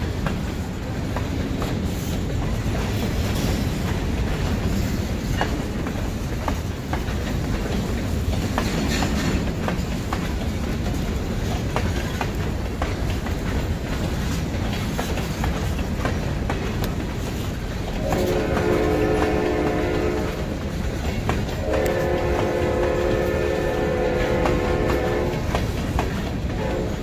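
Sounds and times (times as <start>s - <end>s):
freight train rumbling: 0.0s - 27.0s
wheels clicking over rail joints: 0.0s - 27.0s.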